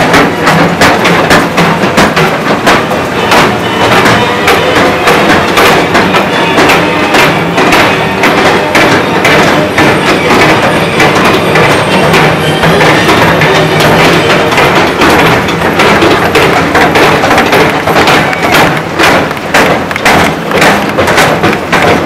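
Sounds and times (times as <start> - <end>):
percussion-driven music: 0.0 - 22.0
sharp regular hits: 0.0 - 22.0.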